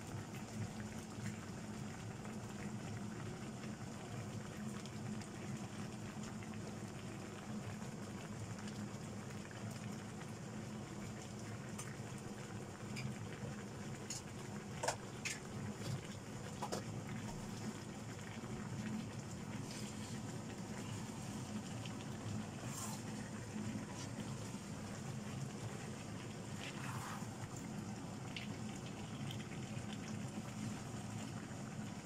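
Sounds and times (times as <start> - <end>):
chicken sizzling in a frying pan: 0.0 - 32.0.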